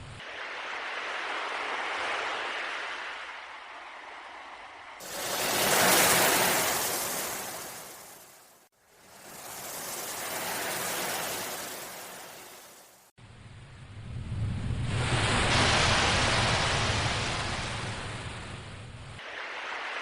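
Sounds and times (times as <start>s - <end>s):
ocean waves washing ashore: 0.0s - 13.2s, 14.0s - 20.0s.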